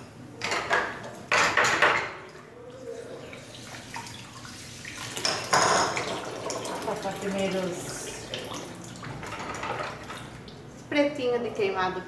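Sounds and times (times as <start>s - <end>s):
water splashing in sink: 0.7s - 11.0s.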